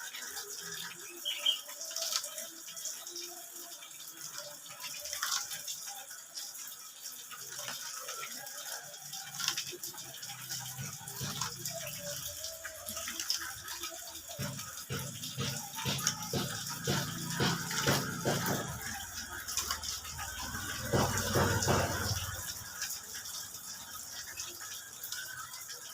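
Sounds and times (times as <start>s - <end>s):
water splashing and dripping: 0.0s - 25.9s.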